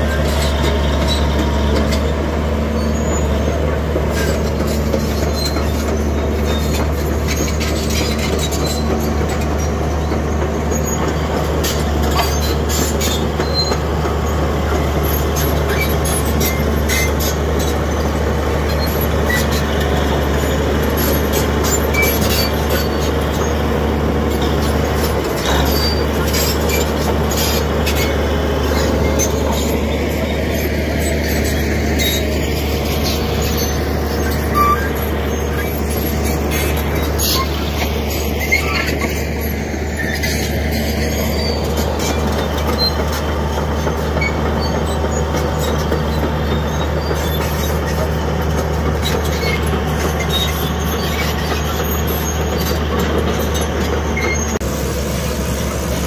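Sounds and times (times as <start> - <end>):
bulldozer diesel engine running: 0.0 - 56.0
steel tracks clanking: 0.0 - 56.0.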